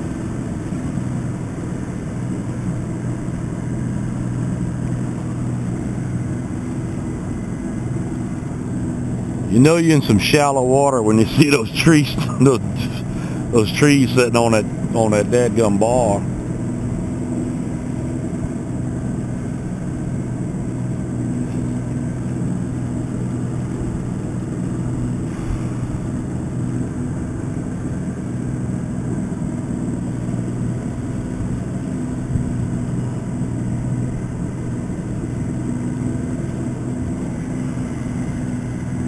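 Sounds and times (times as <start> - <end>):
boat motor droning: 0.0 - 39.0.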